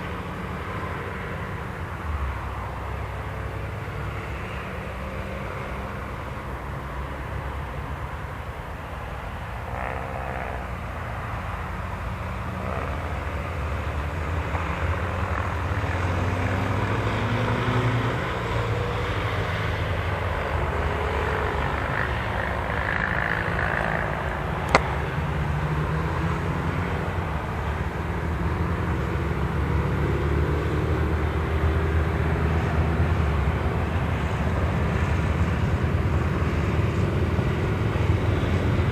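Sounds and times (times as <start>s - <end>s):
cars driving past on circuit: 0.0s - 38.9s.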